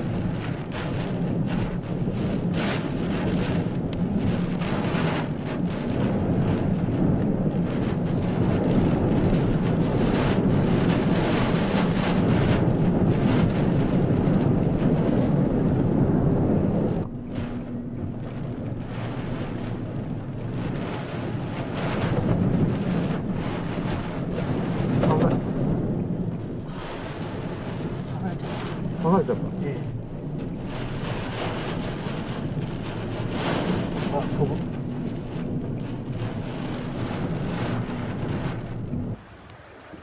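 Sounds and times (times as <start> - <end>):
heavy rain: 0.0 - 40.0
wind buffeting microphone: 0.0 - 40.0.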